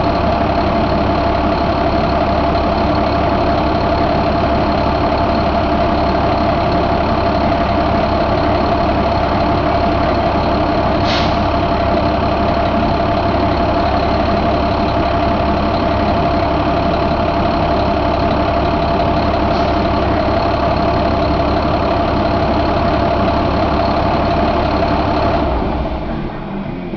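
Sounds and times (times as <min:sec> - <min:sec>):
diesel engine idling: 0:00.0 - 0:26.9
engine whine: 0:00.0 - 0:26.9.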